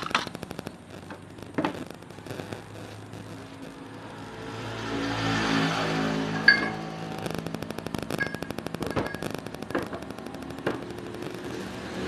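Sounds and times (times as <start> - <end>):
engine hum: 1.8 - 12.0.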